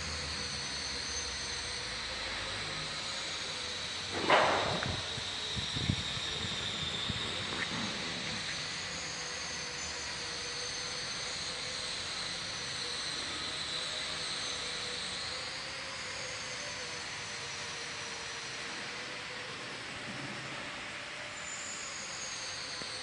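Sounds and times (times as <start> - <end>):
mechanical whirring with whine: 0.0 - 23.0.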